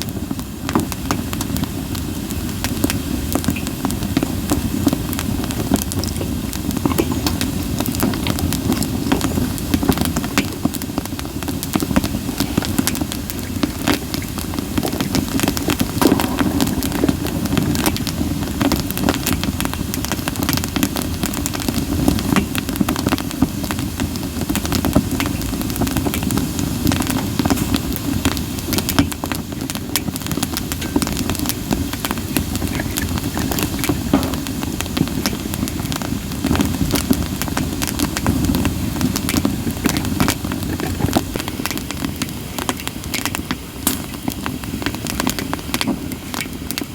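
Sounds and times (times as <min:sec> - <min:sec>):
campfire crackling and popping: 0:00.0 - 0:46.9
low rumble of flame: 0:00.0 - 0:46.9.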